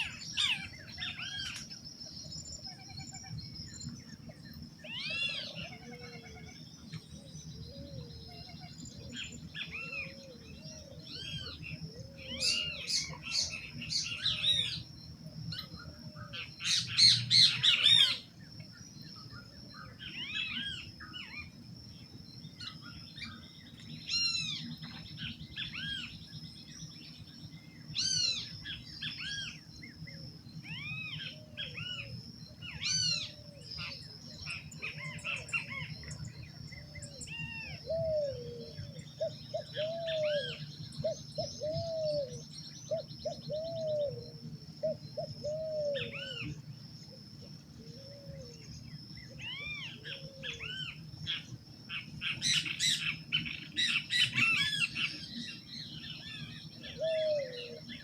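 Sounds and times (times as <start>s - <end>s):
birds chirping and whistling: 0.0s - 21.7s, 22.4s - 58.0s.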